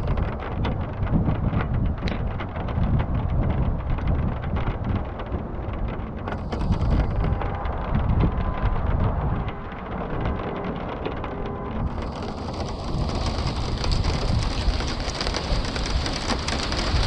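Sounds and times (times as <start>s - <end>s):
rain pattering: 0.0s - 17.0s
steady low rumble: 0.0s - 17.0s.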